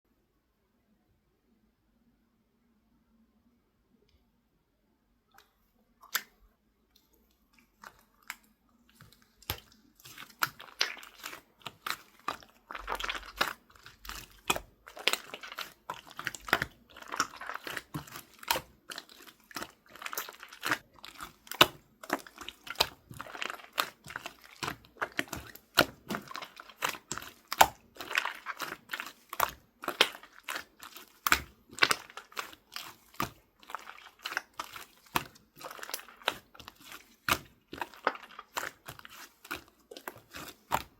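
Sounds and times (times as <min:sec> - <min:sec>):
slime squishing with wet pops: 0:05.3 - 0:40.9.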